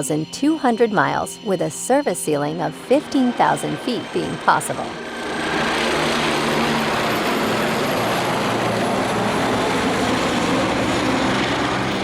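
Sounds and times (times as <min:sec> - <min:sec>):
helicopter turbine and rotor noise: 0:01.0 - 0:12.0
high whine: 0:01.9 - 0:12.0.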